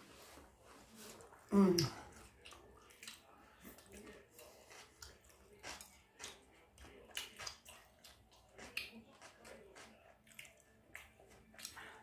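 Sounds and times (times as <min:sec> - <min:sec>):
person chewing with mouth clicks: 0:01.5 - 0:12.0.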